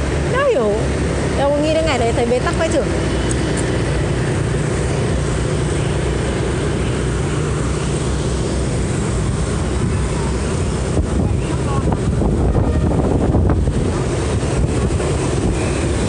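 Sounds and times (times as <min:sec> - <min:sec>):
road noise: 0:00.0 - 0:16.0
scooter engine running: 0:00.0 - 0:16.0
wind on microphone: 0:03.1 - 0:16.0.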